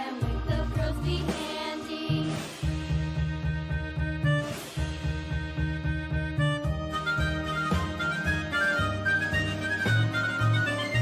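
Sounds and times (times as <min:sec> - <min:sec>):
background music with quick beat: 0:00.0 - 0:11.0.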